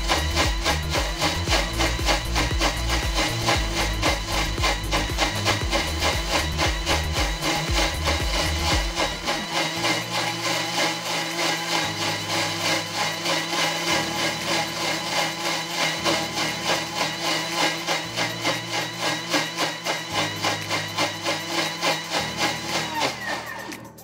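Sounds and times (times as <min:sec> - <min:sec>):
background music with beat: 0:00.0 - 0:24.0
food processor blending: 0:00.0 - 0:24.0.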